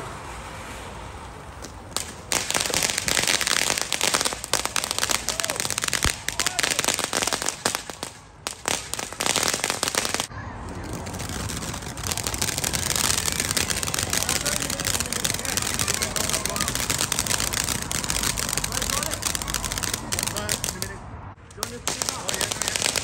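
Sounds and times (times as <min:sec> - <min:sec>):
firework fountain hiss: 0:00.0 - 0:23.0
firework crackling pops: 0:01.6 - 0:23.0.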